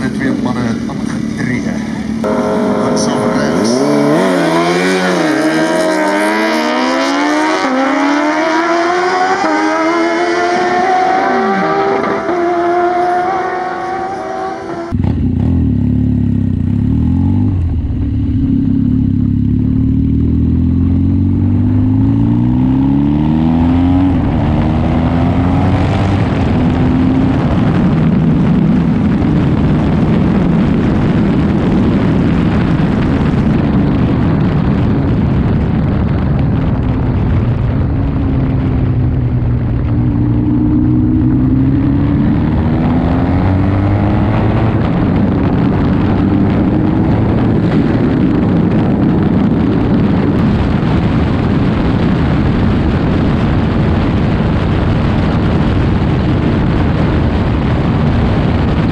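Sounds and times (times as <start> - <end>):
motorcycles accelerating through gears: 0.0 - 58.9
onboard motorcycle engine accelerating: 0.0 - 58.9
wind noise: 0.0 - 58.9.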